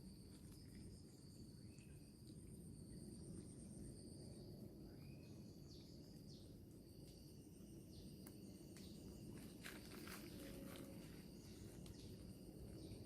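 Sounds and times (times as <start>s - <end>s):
high-pitched insect trills: 0.0s - 13.0s
low background hum: 0.0s - 13.0s.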